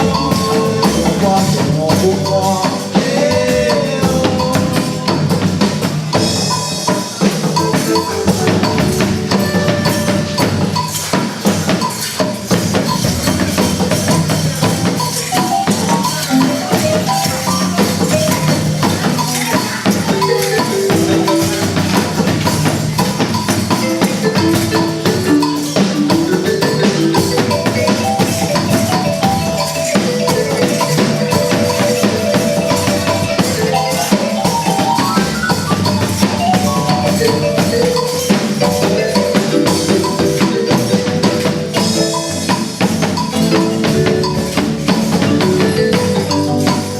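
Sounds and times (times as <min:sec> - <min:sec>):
music with fast percussion: 0:00.0 - 0:46.9.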